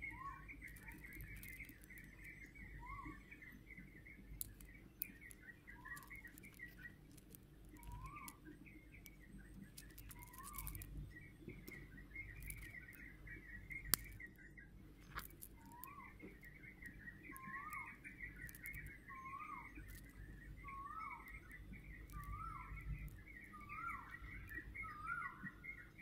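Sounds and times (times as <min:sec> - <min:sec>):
birds twittering: 0:00.0 - 0:26.0
faint clicks: 0:00.6 - 0:03.2, 0:04.3 - 0:25.2.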